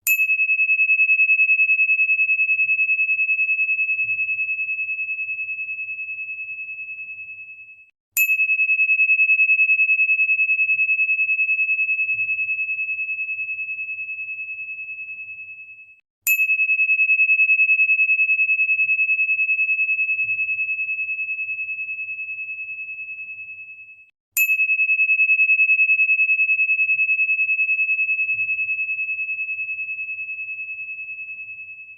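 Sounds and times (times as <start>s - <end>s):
high pure ringing tone: 0.0s - 31.9s.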